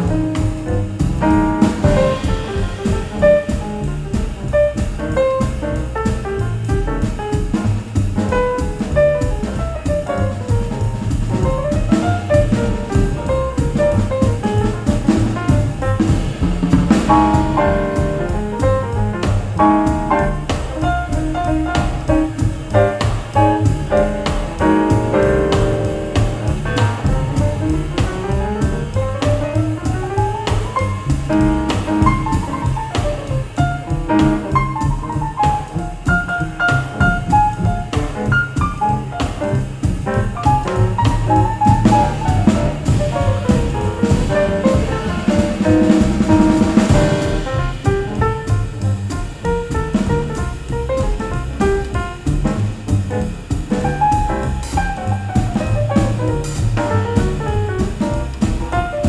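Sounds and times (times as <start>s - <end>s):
jazz music: 0.0s - 59.0s.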